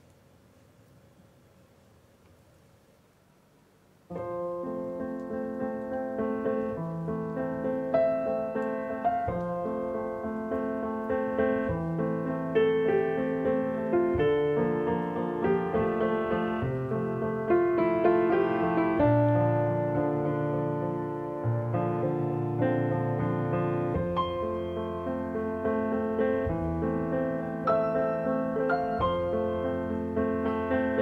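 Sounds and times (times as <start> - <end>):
piano music: 4.1 - 31.0.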